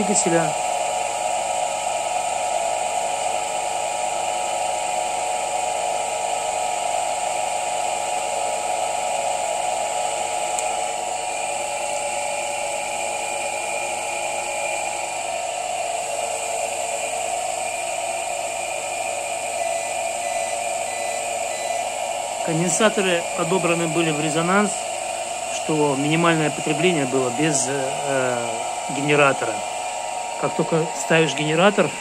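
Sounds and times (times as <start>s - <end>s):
electric motor high whine: 0.0s - 32.0s.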